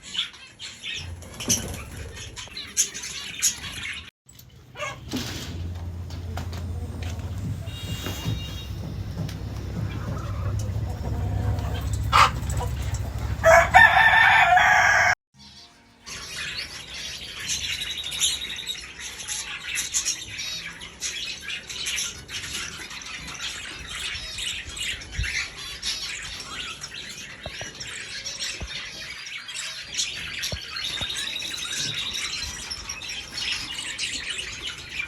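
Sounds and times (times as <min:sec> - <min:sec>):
many small birds chirping: 0:00.0 - 0:05.0, 0:06.0 - 0:35.0.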